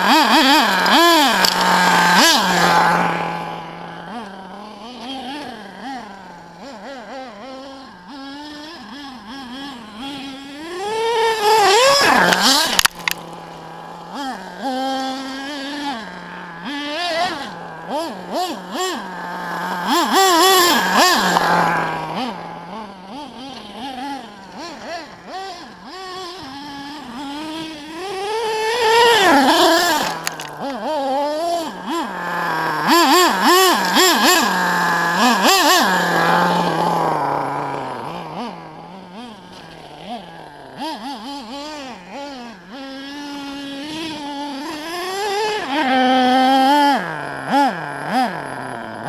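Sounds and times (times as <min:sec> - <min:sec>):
small two-stroke engine revving: 0:00.0 - 0:49.0.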